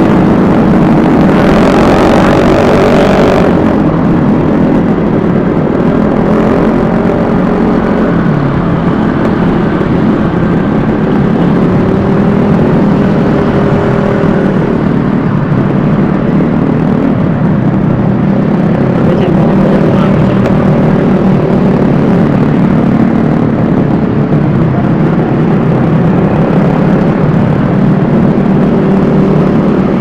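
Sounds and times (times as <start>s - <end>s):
wind noise on microphone: 0.0s - 30.0s.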